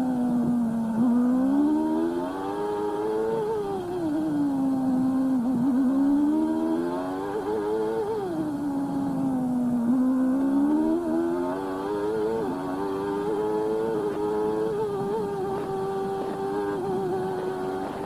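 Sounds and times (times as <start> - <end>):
racing car engine: 0.0 - 18.0.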